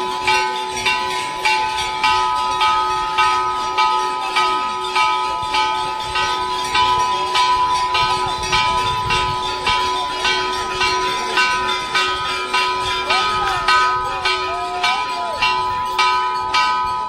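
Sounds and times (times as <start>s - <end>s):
temple bell ringing: 0.0s - 17.0s.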